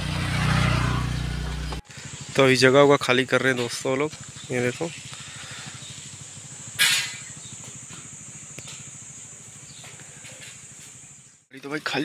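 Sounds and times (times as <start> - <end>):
steady high-pitched hiss: 1.9 - 12.0.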